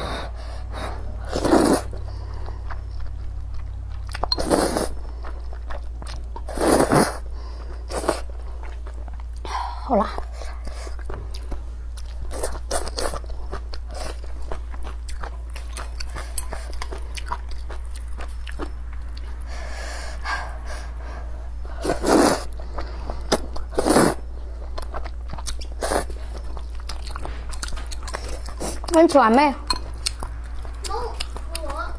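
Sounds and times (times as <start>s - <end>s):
person chewing noodles: 0.0s - 29.0s, 29.7s - 31.7s.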